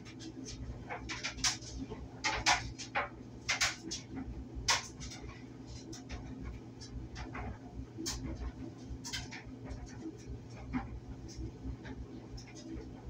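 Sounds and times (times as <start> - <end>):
dryer clicks and knocks: 0.0 - 12.9
clothes dryer humming: 0.0 - 13.0.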